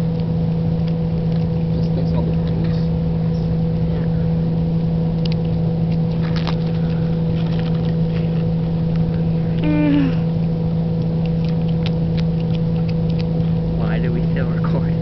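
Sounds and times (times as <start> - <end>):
steady motor hum: 0.0 - 15.0.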